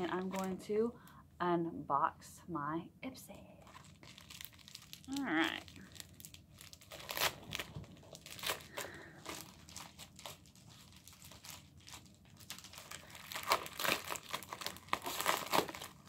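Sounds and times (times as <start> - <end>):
plastic mailer crinkling and tearing: 0.0 - 0.6, 3.6 - 16.0.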